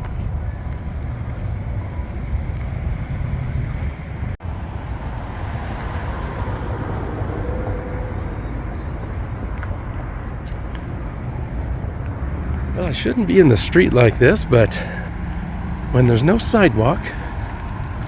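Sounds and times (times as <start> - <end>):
street traffic noise: 0.0 - 18.0
car passing: 2.2 - 18.0.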